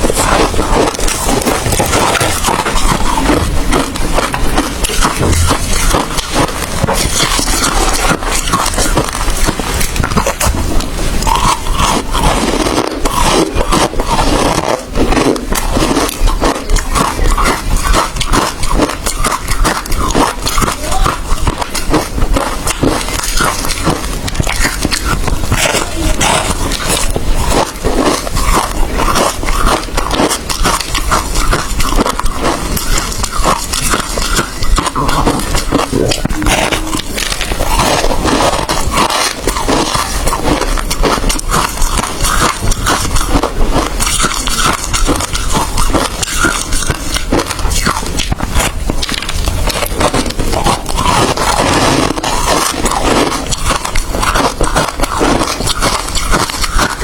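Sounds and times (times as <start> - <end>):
person crunching ice: 0.0 - 57.0.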